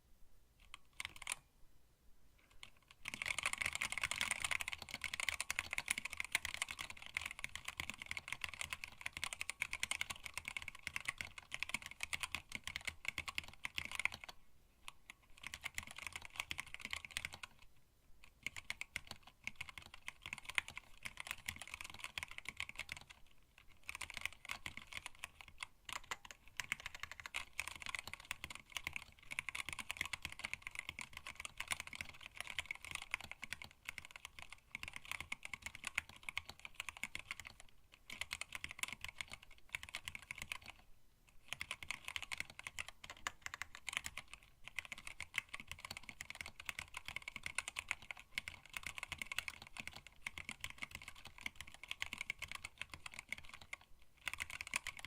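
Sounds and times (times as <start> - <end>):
mechanical keyboard typing: 0.6 - 1.4, 2.5 - 55.0.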